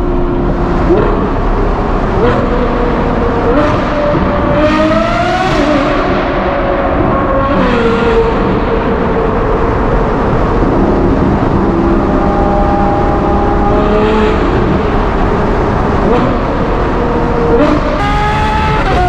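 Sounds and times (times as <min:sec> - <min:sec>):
car engine revving in tunnel: 0:00.0 - 0:19.0.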